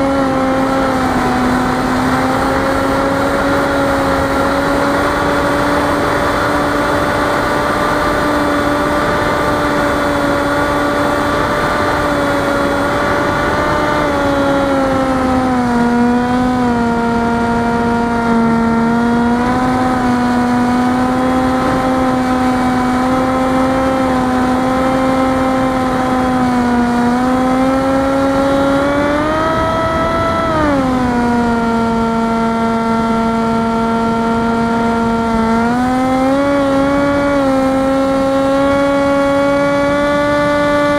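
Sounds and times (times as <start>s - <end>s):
electric motor and propeller droning: 0.0s - 40.9s.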